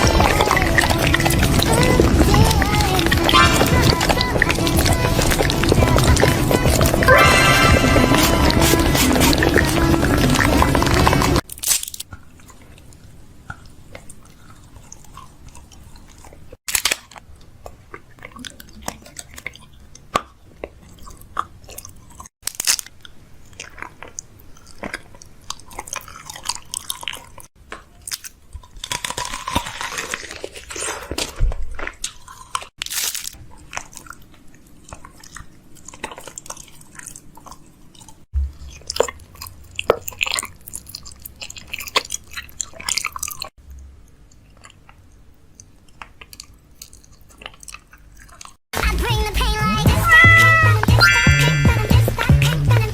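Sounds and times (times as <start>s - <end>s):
crunching and chewing: 0.0s - 48.6s.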